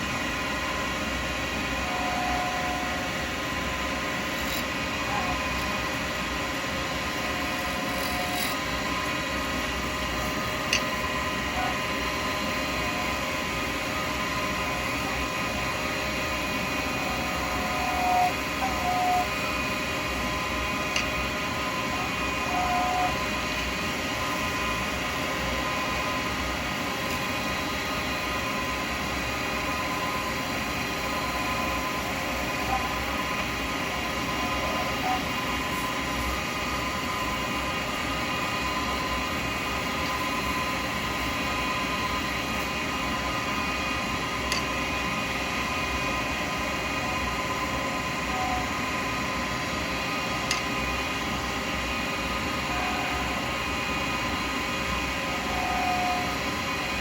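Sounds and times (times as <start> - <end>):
lathe machine whine: 0.0 - 57.0.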